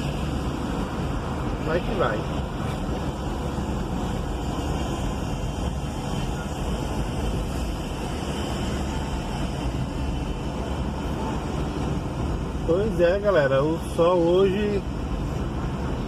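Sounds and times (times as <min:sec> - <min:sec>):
diesel engine driving: 0:00.0 - 0:16.0.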